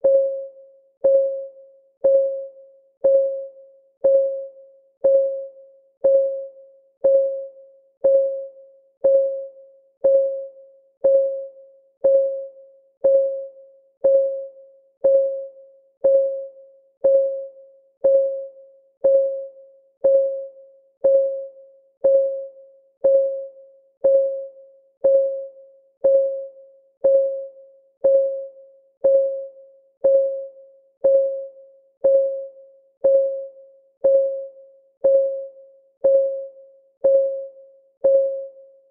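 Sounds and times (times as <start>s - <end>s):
timer ticking tones: 0.0s - 38.7s.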